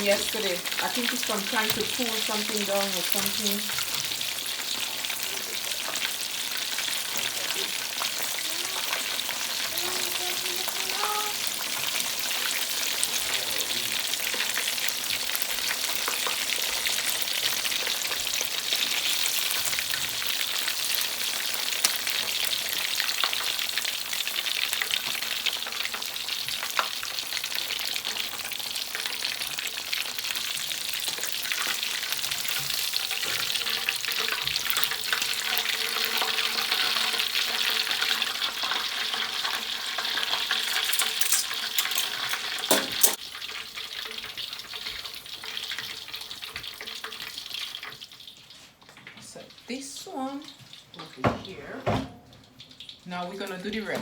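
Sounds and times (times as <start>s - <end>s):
chicken frying in hot oil: 0.0s - 54.0s.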